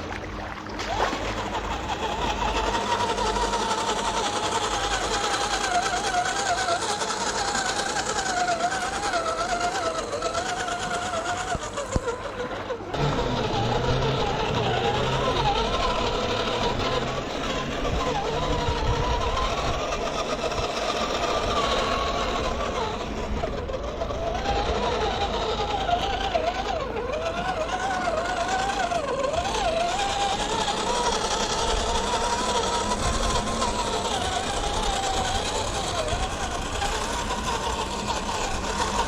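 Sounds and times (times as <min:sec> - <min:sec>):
electric motor and gearbox whine: 0:00.0 - 0:39.0.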